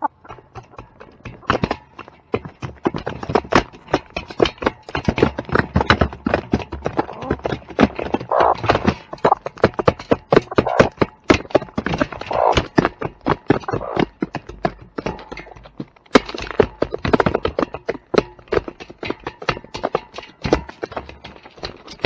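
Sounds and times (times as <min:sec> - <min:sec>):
farm animals tapping and knocking: 0:00.0 - 0:22.0.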